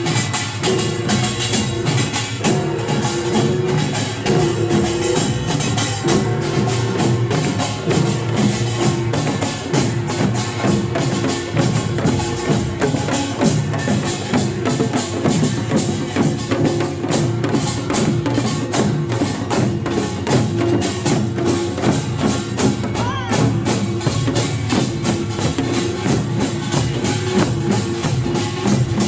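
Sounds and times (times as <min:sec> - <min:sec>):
hourglass and barrel drums: 0:00.0 - 0:29.0.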